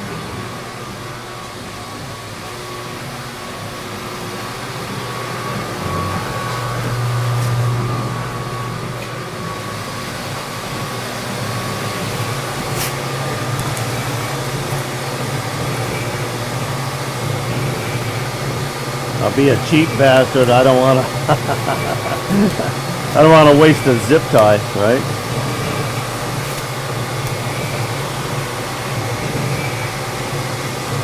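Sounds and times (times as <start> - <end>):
metal lathe motor hum: 0.0 - 31.0.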